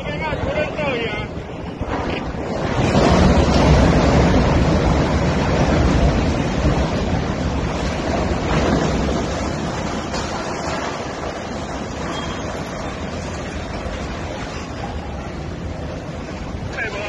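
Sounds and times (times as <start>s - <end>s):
crane collapsing crash and rumble: 0.0s - 17.0s
wind buffeting microphone: 0.0s - 17.0s.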